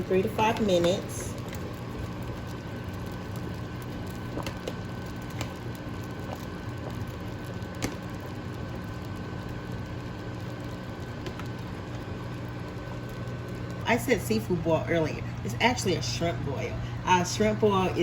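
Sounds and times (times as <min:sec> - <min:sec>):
pot cooking hum: 0:00.0 - 0:18.0.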